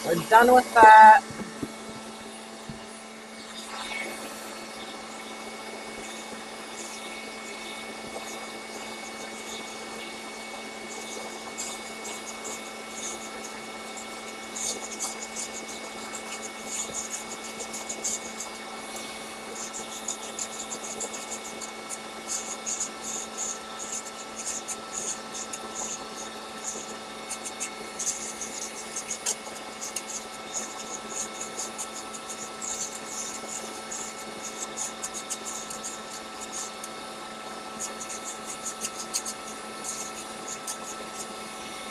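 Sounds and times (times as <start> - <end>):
electric stand mixer running: 0.0 - 41.9
scratchy rasping of hand stirring: 3.5 - 41.9.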